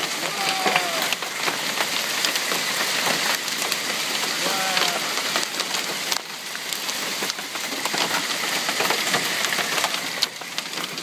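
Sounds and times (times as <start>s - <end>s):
hail hammering on car roof: 0.0s - 11.0s.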